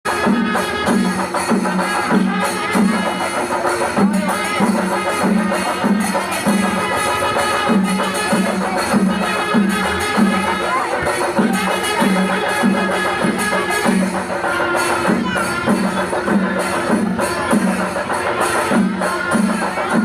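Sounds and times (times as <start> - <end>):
low drum beat: 0.1 - 20.0.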